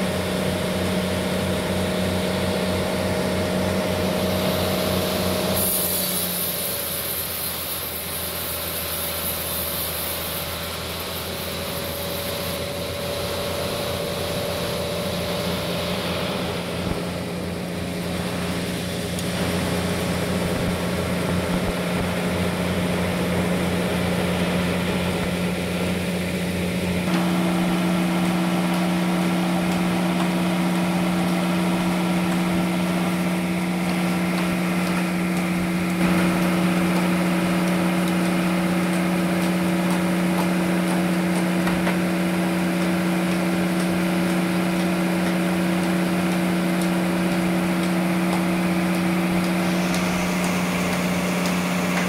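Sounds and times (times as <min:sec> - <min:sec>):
harsh hissing noise: 0:00.0 - 0:52.0
sawmill machine hum: 0:00.0 - 0:52.0.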